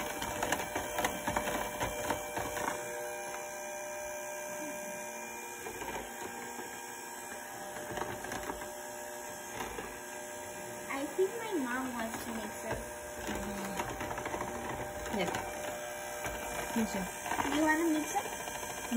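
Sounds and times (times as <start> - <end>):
electric hand mixer running: 0.0 - 18.9.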